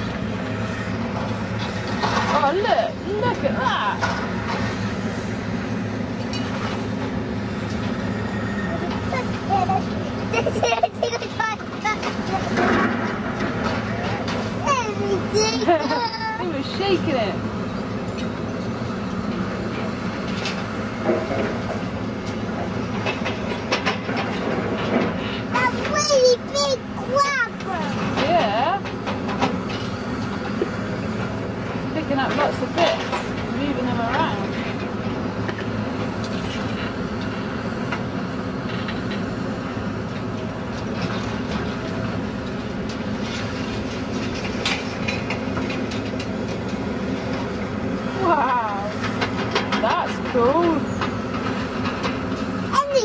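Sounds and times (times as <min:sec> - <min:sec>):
diesel engine low rumble: 0:00.0 - 0:53.0
rubble clanks and clatters: 0:00.9 - 0:04.8, 0:06.1 - 0:17.2, 0:18.0 - 0:47.8, 0:48.4 - 0:53.0.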